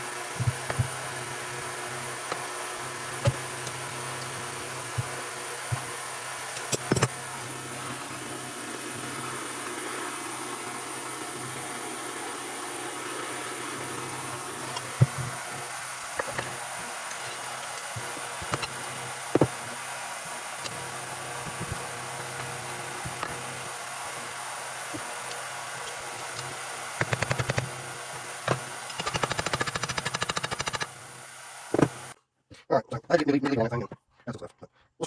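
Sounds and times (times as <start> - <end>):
fan humming: 0.0 - 32.2
rapid evenly spaced clicking: 0.0 - 32.2.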